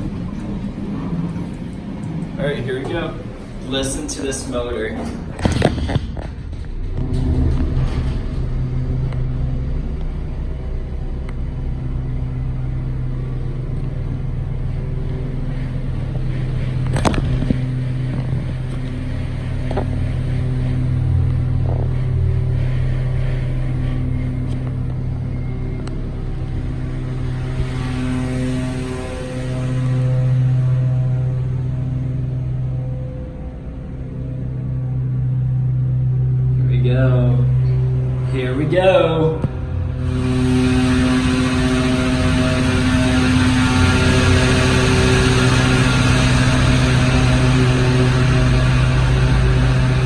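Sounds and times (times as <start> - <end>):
elevator pump motor humming: 0.0 - 50.0.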